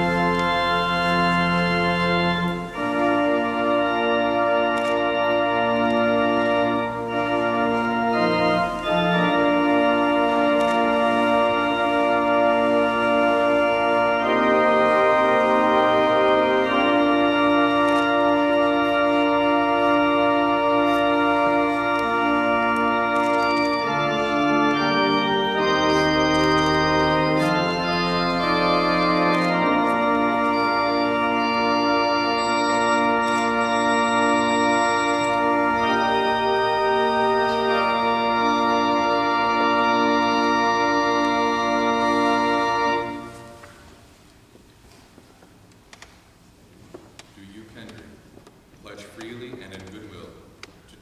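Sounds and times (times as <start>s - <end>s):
organ playing slow chords: 0.0s - 51.0s.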